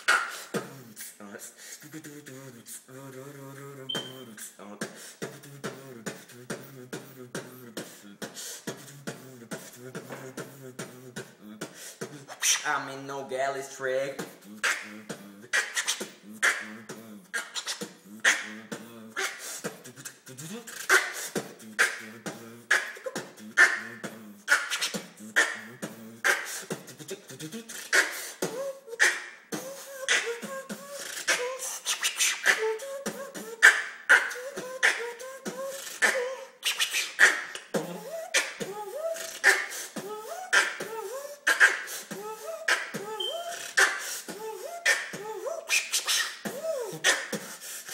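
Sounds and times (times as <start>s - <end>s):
beatboxing: 0.0s - 47.9s.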